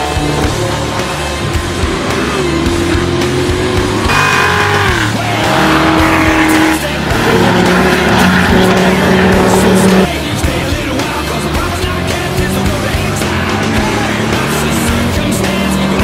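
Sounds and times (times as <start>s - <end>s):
music: 0.0s - 16.0s
race car engines: 0.0s - 16.0s.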